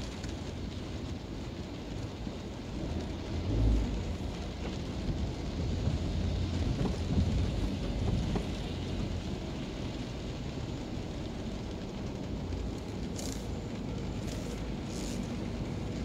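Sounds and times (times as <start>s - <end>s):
rain: 0.0s - 16.0s
tyres swishing on wet road: 0.0s - 16.0s.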